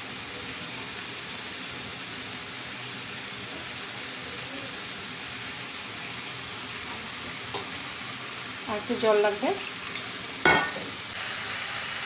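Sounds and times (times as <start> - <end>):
food sizzling in a covered pan: 0.0 - 12.0.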